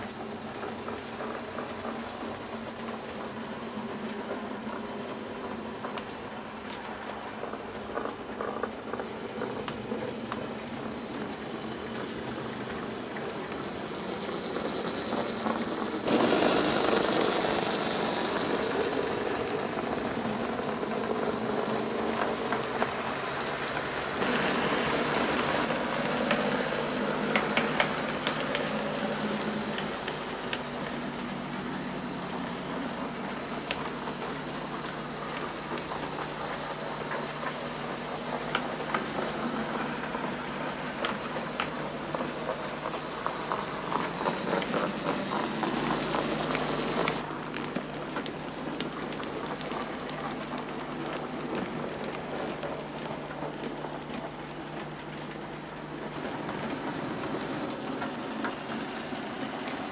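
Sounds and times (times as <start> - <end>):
model train motors whirring: 0.0 - 59.9
wheels clicking over rail joints: 0.0 - 59.9
wheels rumbling on track: 0.0 - 59.9.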